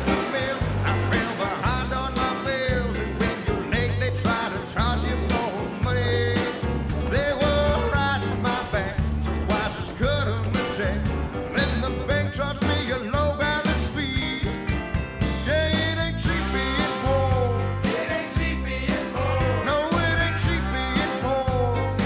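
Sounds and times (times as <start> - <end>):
upbeat country-rock song: 0.0 - 22.0.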